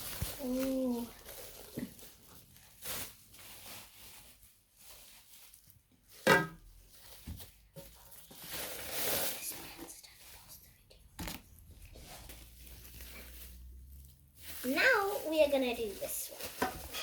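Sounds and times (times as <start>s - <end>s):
packaging rustling and tearing: 0.0s - 6.2s, 6.9s - 10.4s, 11.2s - 17.0s.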